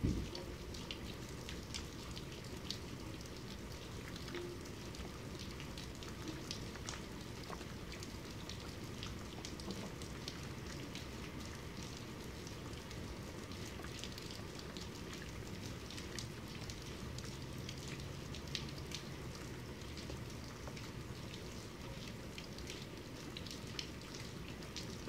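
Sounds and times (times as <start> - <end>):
rain falling: 0.0 - 25.0
raindrops ticking: 0.0 - 25.0.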